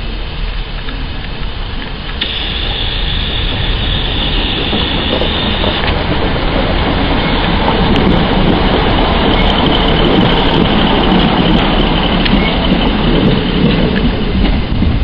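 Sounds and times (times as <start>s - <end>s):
train passing on tracks: 0.0s - 15.0s.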